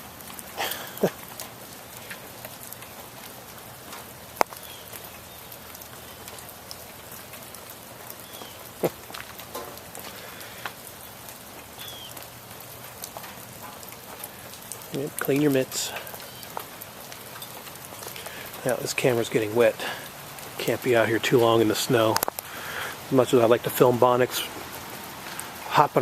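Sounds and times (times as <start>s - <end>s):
wet snow pattering: 0.0s - 26.0s.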